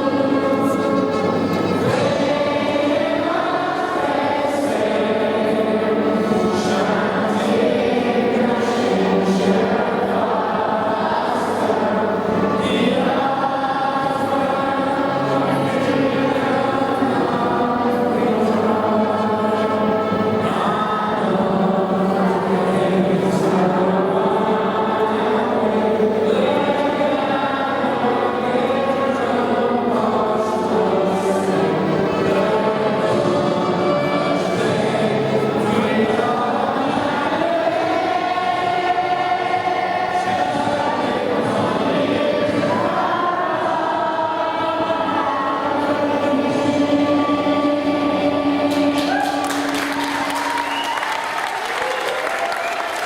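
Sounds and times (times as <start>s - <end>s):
children singing together: 0.0s - 51.8s.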